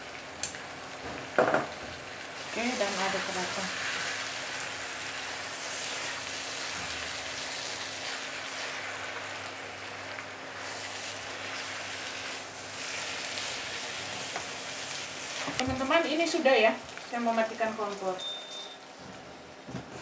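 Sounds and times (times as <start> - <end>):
noodles sizzling in a wok: 0.0 - 18.2.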